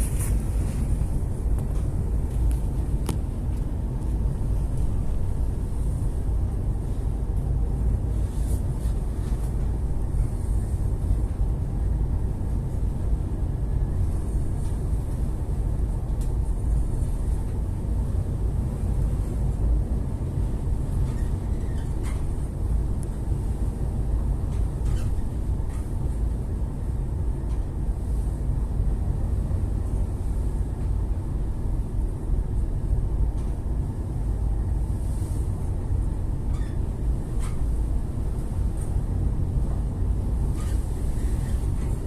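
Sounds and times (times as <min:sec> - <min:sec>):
boat engine rumbling: 0:00.0 - 0:42.0.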